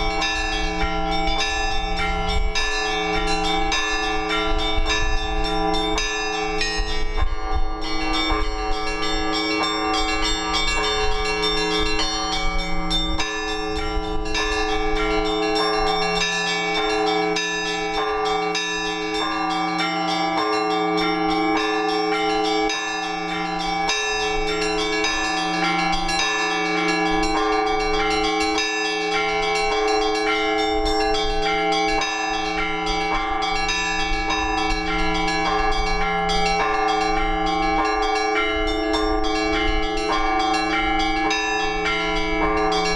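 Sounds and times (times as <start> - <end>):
low church bell striking: 0.0 - 42.9
small bells ringing rapidly: 0.0 - 42.9.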